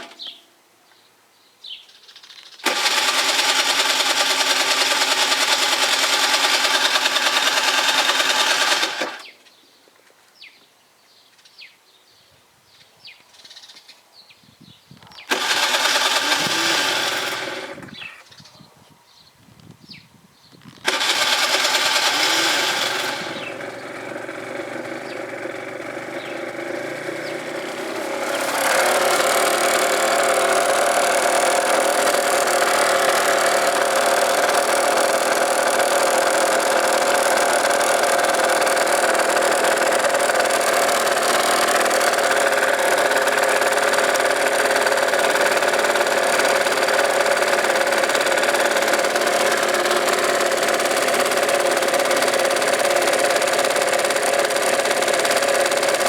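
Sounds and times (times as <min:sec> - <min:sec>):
two-stroke scooter engine running: 0:00.0 - 0:00.3, 0:02.6 - 0:09.4, 0:15.3 - 0:18.3, 0:20.8 - 0:56.0.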